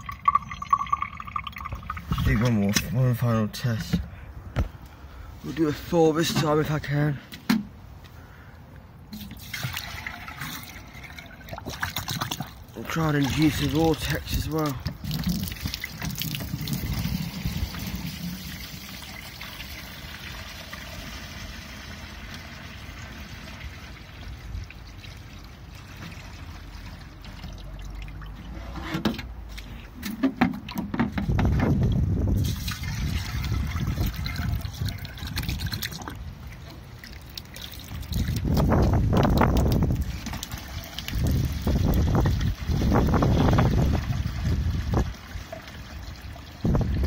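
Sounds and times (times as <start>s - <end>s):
water draining through pipe: 0.0s - 3.0s, 9.1s - 28.6s, 31.7s - 47.0s.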